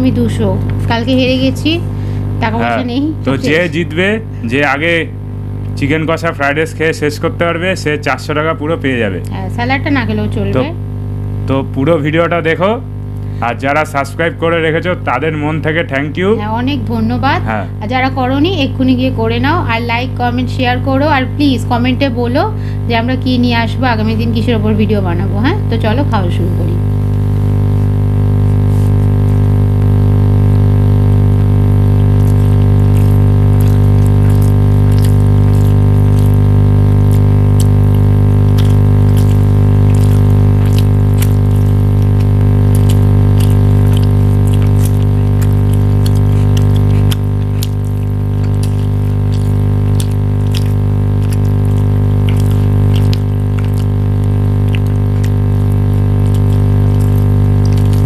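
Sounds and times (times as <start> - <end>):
low droning hum: 0.0 - 58.0.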